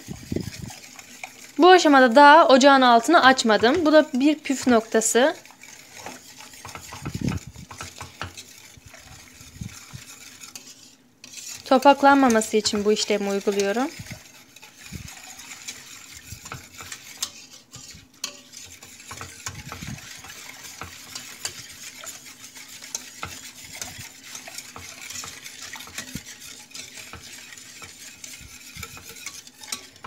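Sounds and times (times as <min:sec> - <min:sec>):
whisk swishing in a pot: 0:00.0 - 0:30.0
whisk wires clicking on pot: 0:00.0 - 0:30.0.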